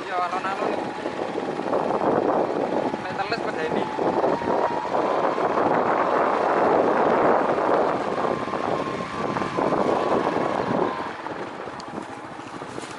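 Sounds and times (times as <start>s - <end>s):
vehicle engine running under load: 0.0s - 12.9s.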